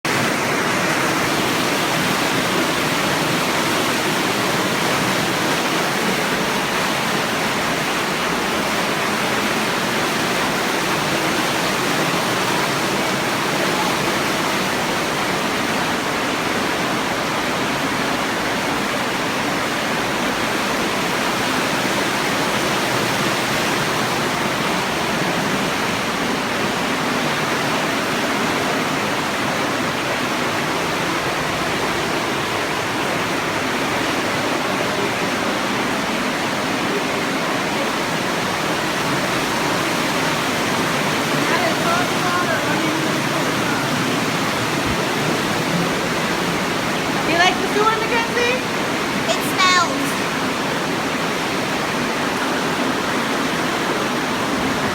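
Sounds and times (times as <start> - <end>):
water rushing through sewer: 0.1 - 54.9.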